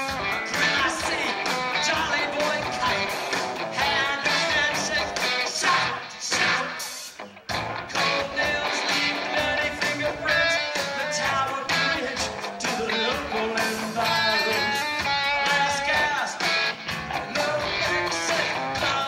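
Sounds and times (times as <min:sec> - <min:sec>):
live rock band playing: 0:00.0 - 0:19.0
man singing into a microphone: 0:00.4 - 0:06.8, 0:07.9 - 0:16.5, 0:17.1 - 0:19.0.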